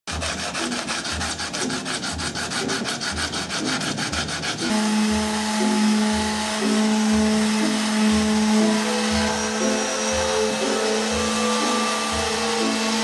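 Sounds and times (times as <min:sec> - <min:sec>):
electric palm sander humming: 0:00.1 - 0:13.0
hand sanding rasping strokes: 0:00.1 - 0:13.0.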